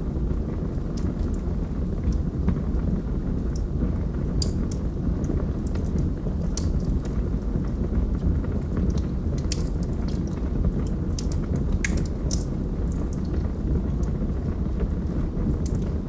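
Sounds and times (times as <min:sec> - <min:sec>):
burning logs crackling and popping: 0:00.0 - 0:16.0
low rumble of flames: 0:00.0 - 0:16.0.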